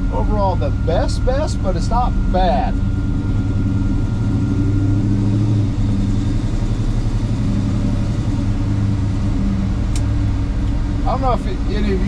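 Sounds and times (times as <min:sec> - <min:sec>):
car engine drone from inside cabin: 0:00.0 - 0:12.0.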